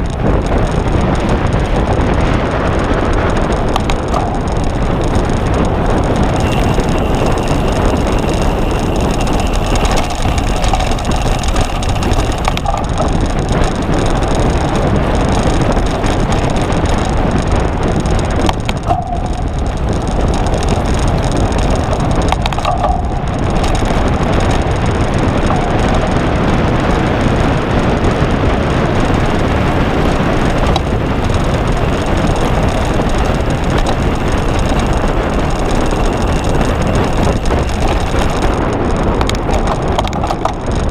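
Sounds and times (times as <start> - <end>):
bike rattling: 0.0 - 40.9
wind and tyre rush: 0.0 - 40.9.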